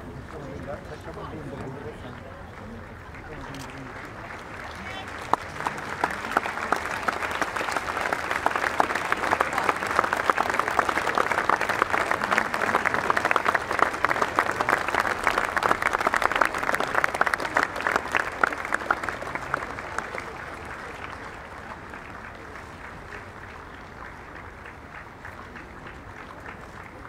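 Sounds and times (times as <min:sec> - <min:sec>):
crowd applauding: 0:00.0 - 0:27.0.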